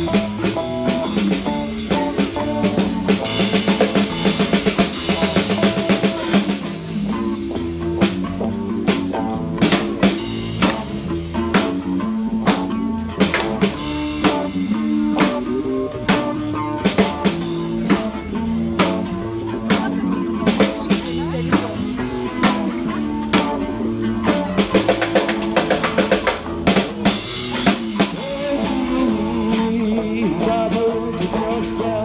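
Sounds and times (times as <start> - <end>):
acoustic guitar: 0.0 - 32.0
drum kit beat: 0.0 - 32.0
electric guitars: 0.0 - 32.0.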